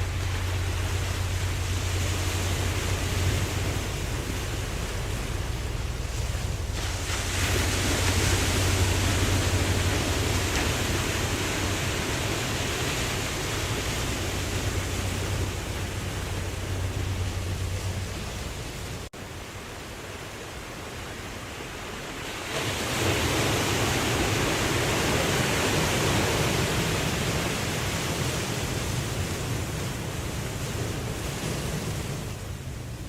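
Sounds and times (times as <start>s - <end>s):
ocean waves washing: 0.0s - 33.0s.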